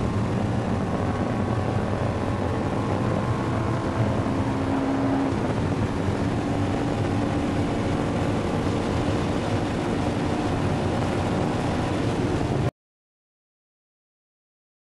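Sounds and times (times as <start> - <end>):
sports car engine at high speed: 0.0 - 12.7
wind and road noise: 0.0 - 12.7.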